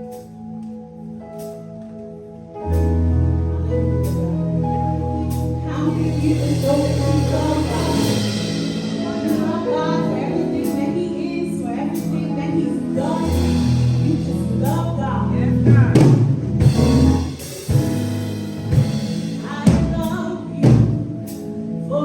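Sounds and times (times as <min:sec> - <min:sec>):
held keyboard chords: 0:00.0 - 0:22.0.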